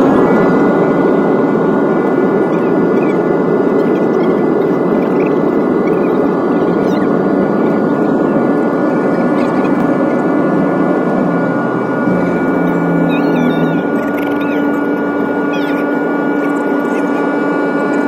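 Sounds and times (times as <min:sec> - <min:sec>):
high whining tones: 0:00.0 - 0:18.0
jet engines and rushing air: 0:00.0 - 0:18.0.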